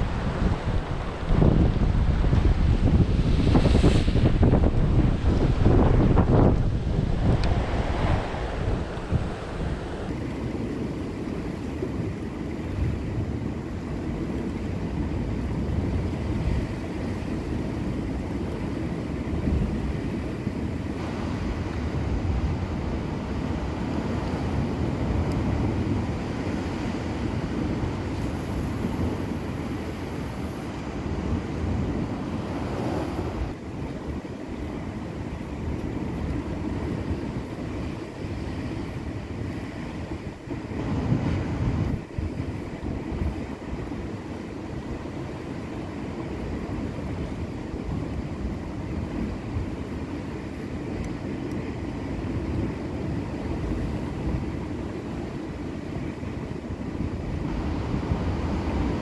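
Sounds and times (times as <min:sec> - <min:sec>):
sea surf: 0:00.0 - 0:59.0
wind buffeting microphone: 0:00.0 - 0:59.0.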